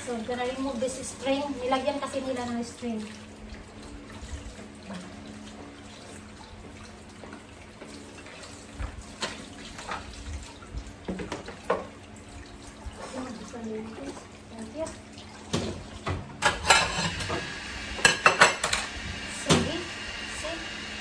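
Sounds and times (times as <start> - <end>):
tap water running into sink: 0.0 - 21.0.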